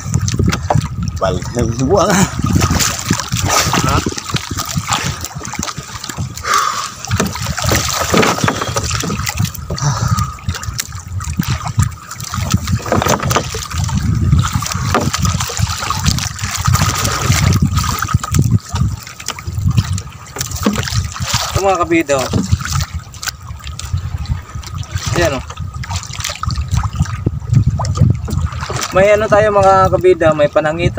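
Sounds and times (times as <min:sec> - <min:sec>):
seawater splashing: 0:00.0 - 0:30.9.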